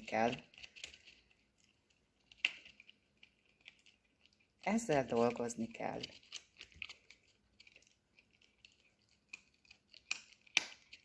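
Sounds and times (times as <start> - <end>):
dog chewing crunching: 0.0 - 11.0.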